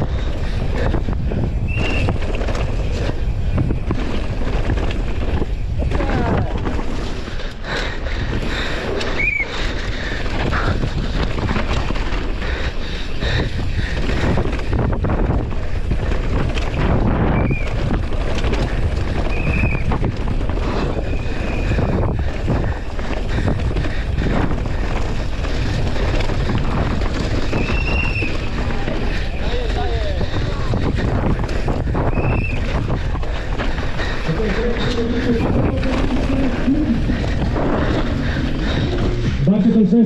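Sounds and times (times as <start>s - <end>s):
bike rattling over bumps: 0.0s - 40.0s
bike tyres rumbling over dirt: 0.0s - 40.0s
wind buffeting microphone: 0.0s - 40.0s.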